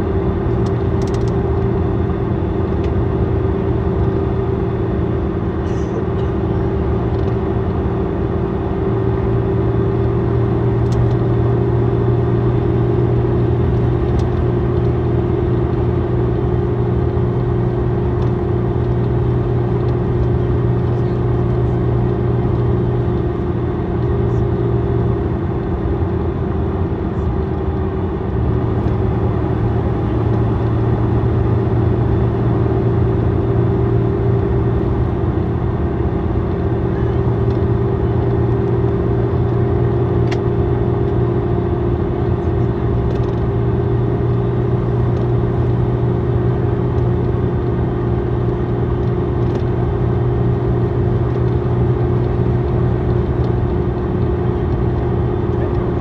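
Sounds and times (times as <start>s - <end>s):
diesel bus engine humming: 0.0s - 56.0s.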